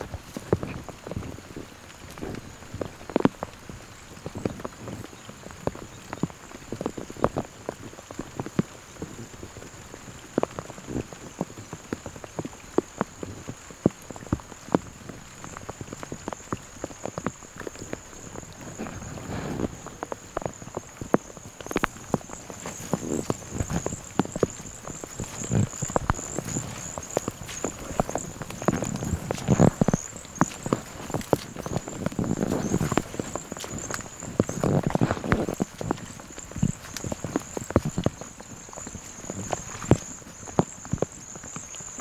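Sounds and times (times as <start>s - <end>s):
raindrops ticking: 0.0s - 42.0s
walking through wet brush: 0.0s - 42.0s.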